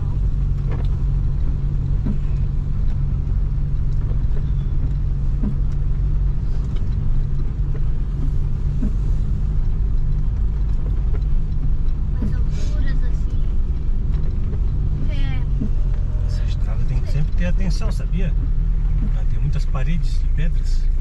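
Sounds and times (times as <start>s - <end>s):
engine and road rumble inside vehicle: 0.0s - 21.0s.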